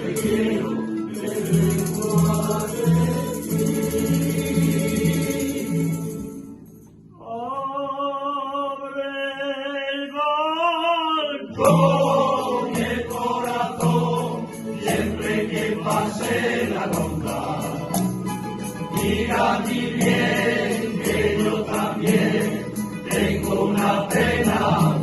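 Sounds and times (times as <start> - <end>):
string ensemble strumming: 0.0 - 7.2, 11.5 - 25.0.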